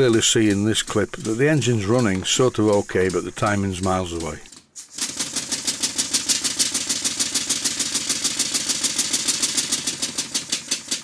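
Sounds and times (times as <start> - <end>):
model engine exhaust puffs: 0.0 - 11.0.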